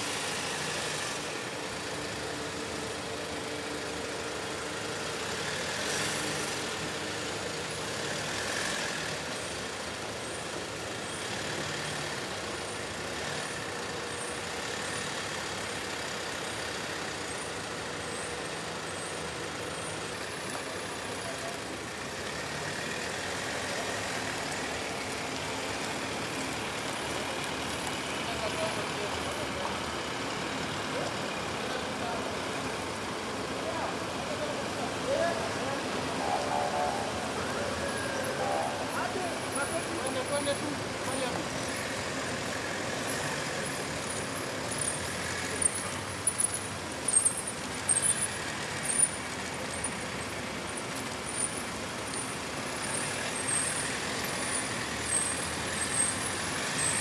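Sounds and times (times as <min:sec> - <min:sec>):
motorcycle and vehicle engines passing: 0:00.0 - 0:57.0.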